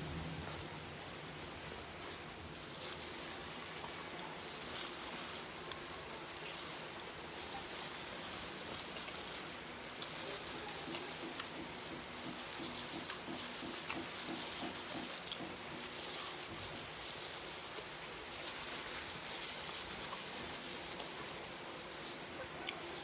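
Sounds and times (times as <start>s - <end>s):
plastic glove crinkling: 0.0s - 23.0s
steady background hiss: 0.0s - 23.0s
chewing and mouth smacks: 2.6s - 23.0s.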